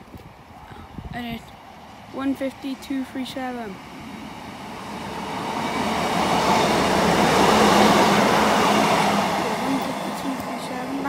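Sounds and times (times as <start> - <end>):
train passing close by: 0.0 - 11.0
train wheels rumbling: 1.2 - 11.0.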